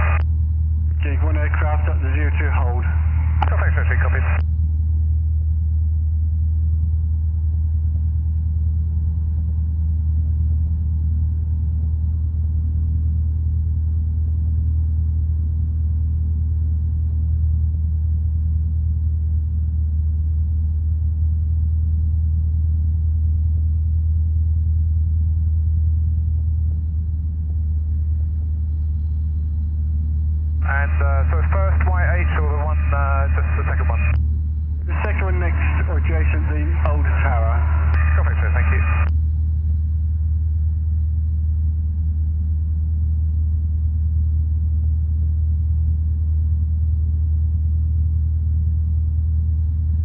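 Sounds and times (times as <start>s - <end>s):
light aircraft engine droning: 0.0s - 50.0s.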